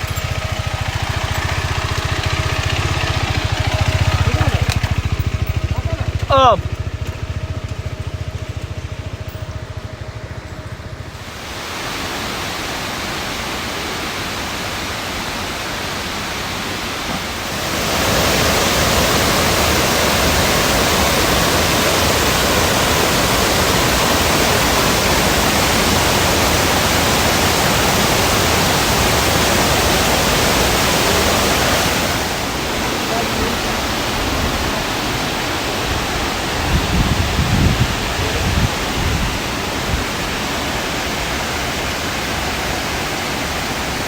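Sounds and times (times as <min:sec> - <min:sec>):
waterfall rushing: 0:00.0 - 0:09.2, 0:11.0 - 0:44.0.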